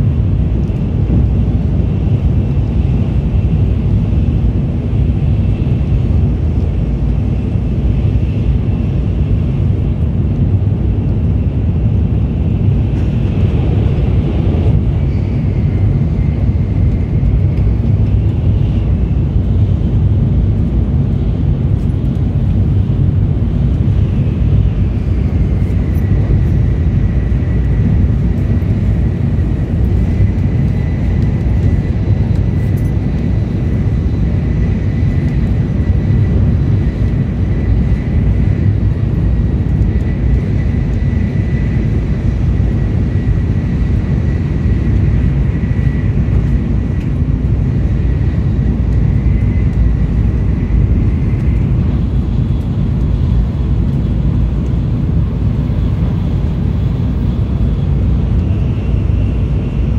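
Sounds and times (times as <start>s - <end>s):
train rumble from inside cabin: 0.0s - 59.9s.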